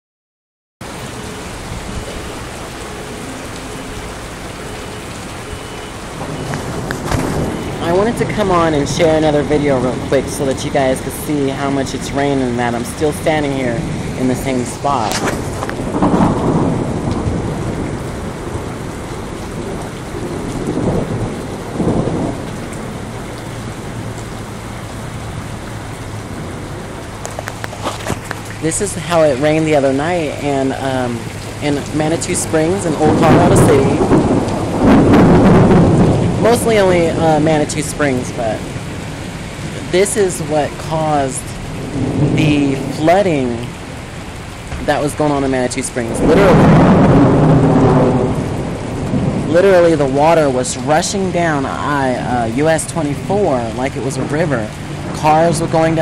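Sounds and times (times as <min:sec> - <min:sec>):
heavy rain on pavement: 0:00.8 - 0:56.0.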